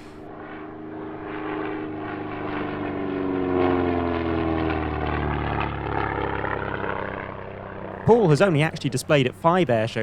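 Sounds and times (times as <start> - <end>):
propeller plane passing by: 0.0 - 10.0.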